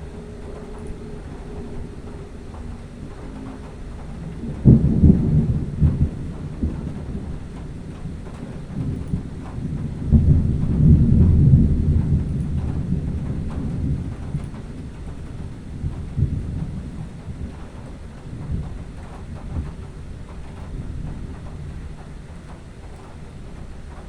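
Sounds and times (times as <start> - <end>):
thunder rumbling: 0.0 - 24.0.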